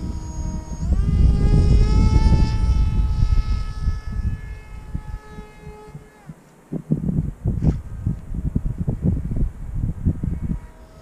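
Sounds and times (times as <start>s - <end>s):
electric motor and propeller whining: 0.0s - 11.0s
wind buffeting microphone: 0.0s - 11.0s.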